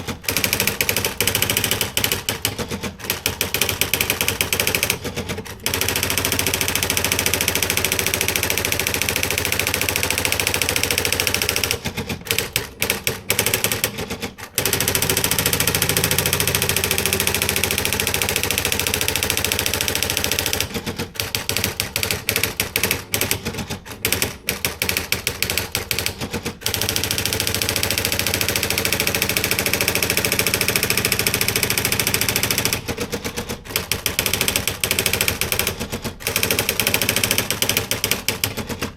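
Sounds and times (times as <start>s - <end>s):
electronic typewriter typing: 0.0s - 38.9s.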